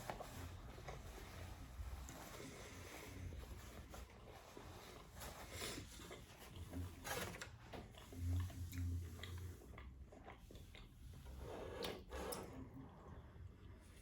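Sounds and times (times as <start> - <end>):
chewing and wet mouth sounds: 2.0 - 14.0.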